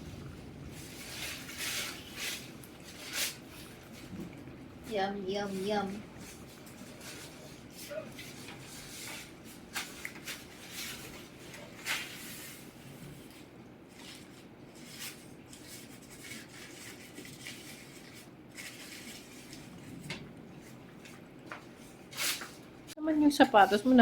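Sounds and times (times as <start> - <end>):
dogs eating and lapping: 0.0 - 24.0
low room hum: 0.0 - 24.0.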